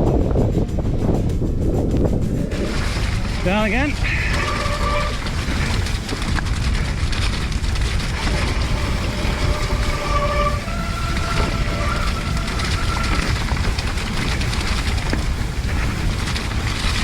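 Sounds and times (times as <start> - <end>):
bike rumbling and rattling: 0.0 - 17.0
wind buffeting microphone: 0.0 - 17.0
brakes squealing: 1.8 - 17.0.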